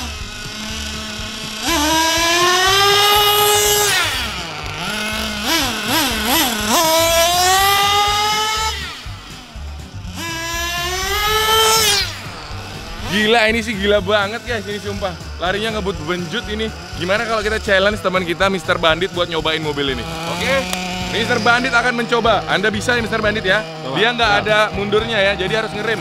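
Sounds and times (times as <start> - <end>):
small two-stroke engine revving: 0.0 - 26.0.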